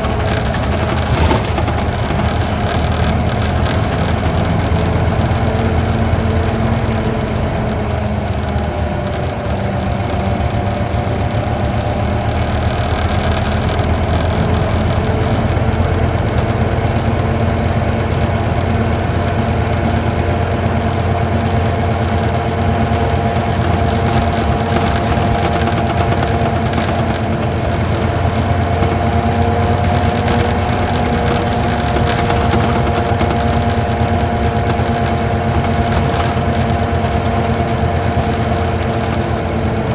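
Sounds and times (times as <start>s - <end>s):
diesel engine pulling uphill: 0.0s - 39.9s.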